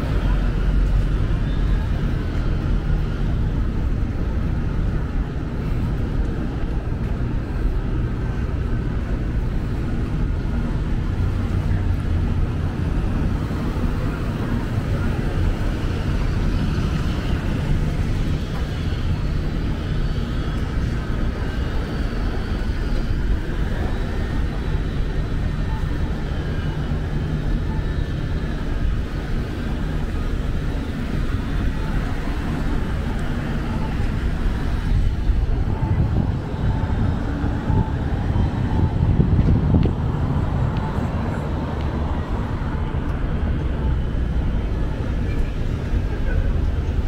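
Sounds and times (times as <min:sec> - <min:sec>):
low outdoor rumble: 0:00.0 - 0:47.0.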